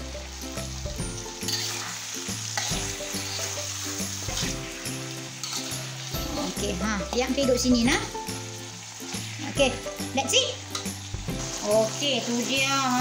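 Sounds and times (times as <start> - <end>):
chicken sizzling in wok: 0.0 - 13.0
metal spatula scraping wok: 1.3 - 13.0.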